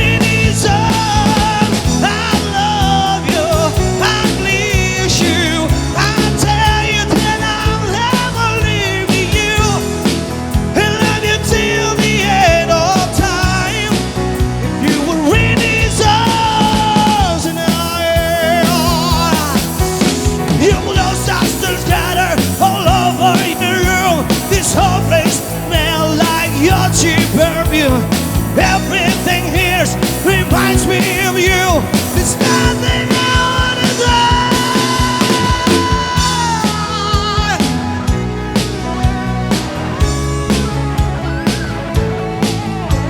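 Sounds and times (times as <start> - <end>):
live rock band playing: 0.0 - 43.0
wavering lead line: 0.0 - 43.0.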